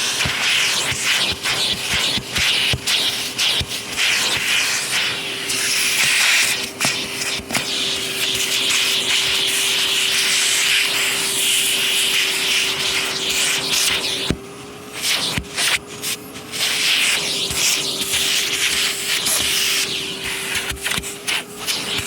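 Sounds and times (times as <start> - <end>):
vacuum cleaner on carpet: 0.0 - 22.0.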